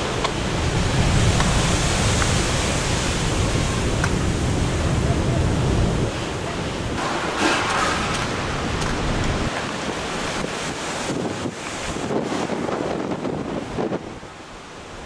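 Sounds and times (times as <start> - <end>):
storm surf breaking: 0.0 - 15.0
wind blowing across microphone: 0.0 - 15.0.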